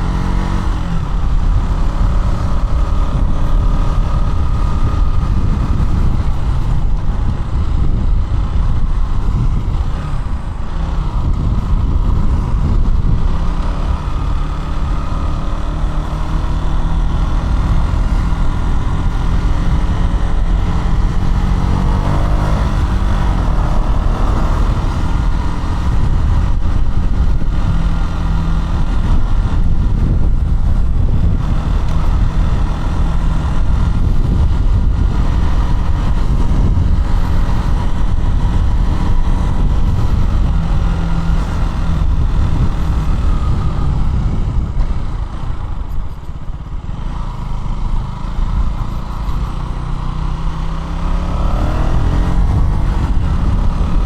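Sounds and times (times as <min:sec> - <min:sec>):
heavy low rumble: 0:00.0 - 0:54.0
motorcycle engine running: 0:00.0 - 0:54.0.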